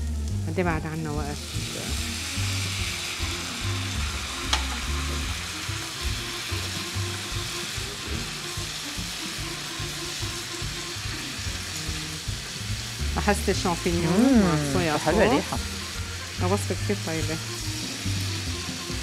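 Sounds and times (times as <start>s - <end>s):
background music with bass: 0.0s - 19.0s
food sizzling in frying pan: 0.0s - 19.0s.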